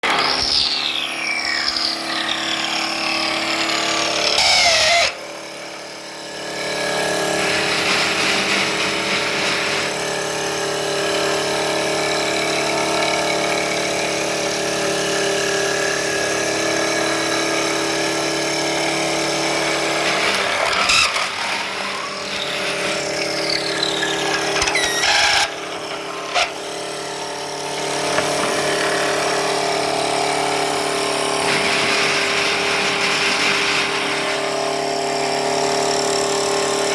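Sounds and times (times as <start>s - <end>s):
machine motor whine: 0.0s - 36.9s.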